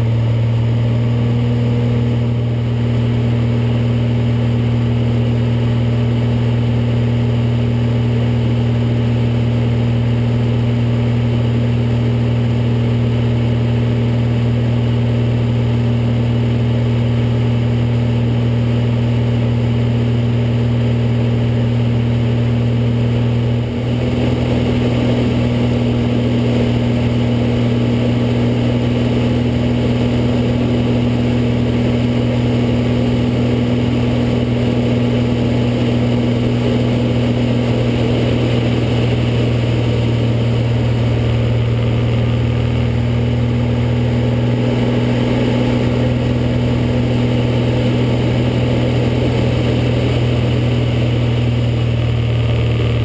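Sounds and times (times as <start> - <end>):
propeller aircraft engine droning: 0.0 - 53.0.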